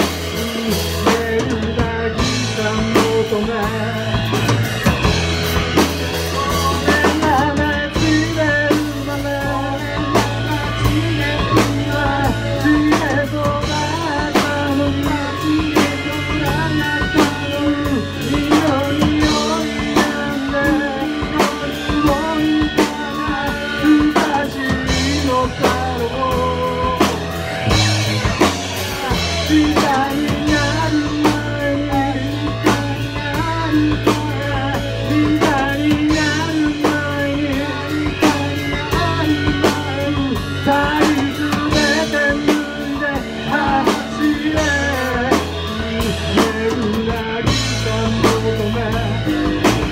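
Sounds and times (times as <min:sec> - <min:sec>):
drum kit: 0:00.0 - 0:49.9
electric bass: 0:00.0 - 0:49.9
electric guitar: 0:00.0 - 0:49.9
person singing lead vocal: 0:00.0 - 0:49.9.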